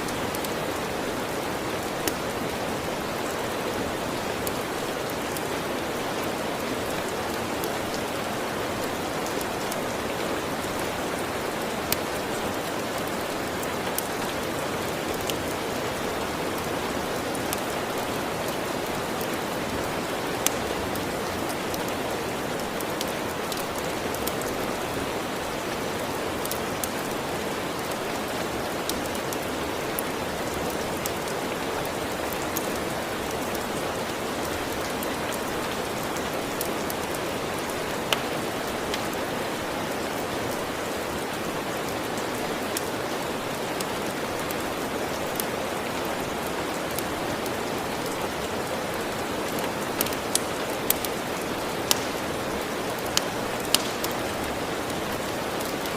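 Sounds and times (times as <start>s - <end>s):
log fire crackling: 0.0s - 55.9s
steady rain: 0.0s - 55.9s.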